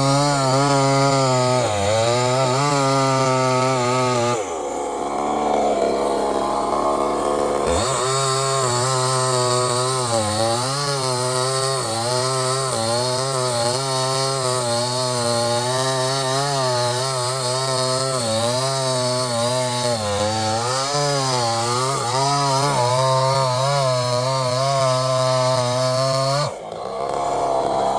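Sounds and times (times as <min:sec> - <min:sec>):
chainsaw cutting wood: 0:00.0 - 0:27.9.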